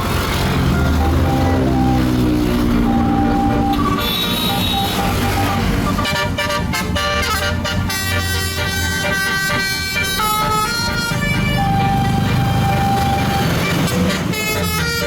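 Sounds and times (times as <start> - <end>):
bus engine rumble: 0.0 - 15.0
bus horn playing notes: 0.4 - 15.0.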